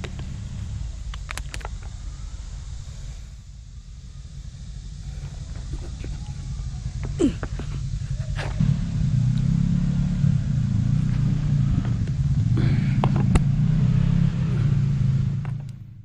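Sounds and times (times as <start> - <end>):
utility vehicle engine under load: 0.0 - 3.0, 5.1 - 16.0.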